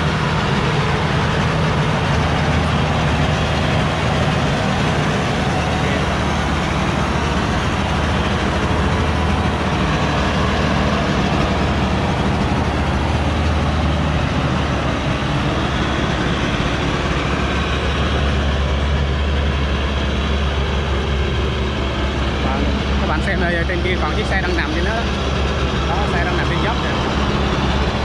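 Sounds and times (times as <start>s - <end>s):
truck diesel engine under load: 0.0s - 28.0s.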